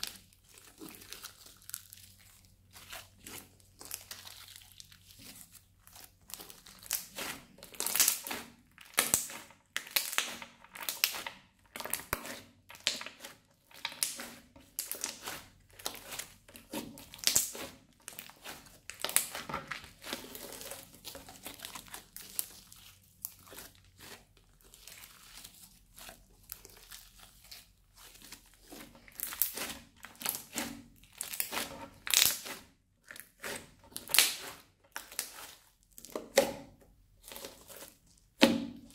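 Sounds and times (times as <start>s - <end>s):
crunchy slime crackling: 0.0s - 38.9s.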